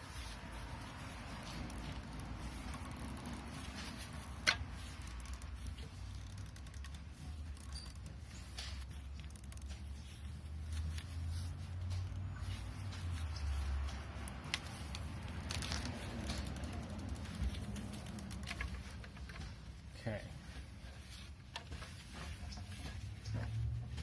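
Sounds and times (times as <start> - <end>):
tools handling noises: 0.0 - 24.0.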